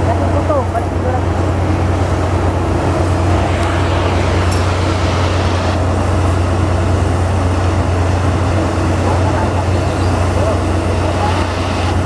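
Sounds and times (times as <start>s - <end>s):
track machinery low drone: 0.0s - 12.0s.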